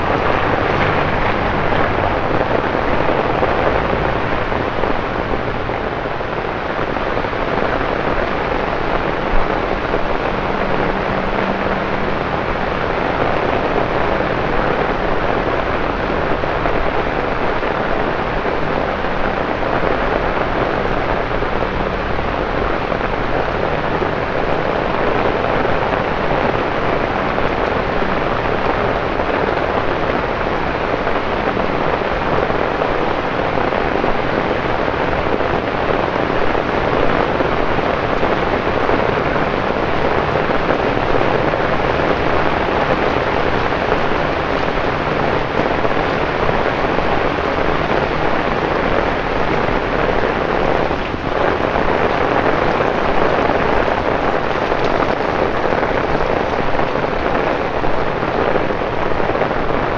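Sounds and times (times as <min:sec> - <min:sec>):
torrential rain on pavement: 0:00.0 - 0:59.9.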